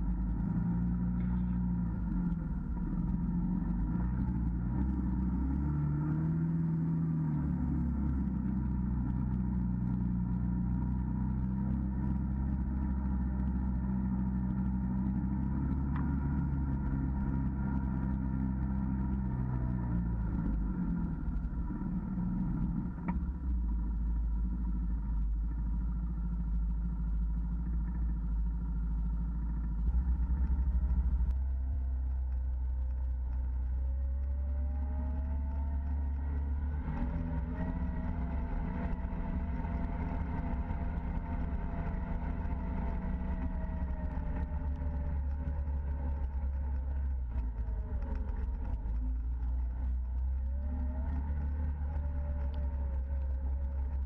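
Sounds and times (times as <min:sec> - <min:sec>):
engine whine: 0:00.0 - 0:54.0
utv engine running: 0:00.0 - 0:54.0.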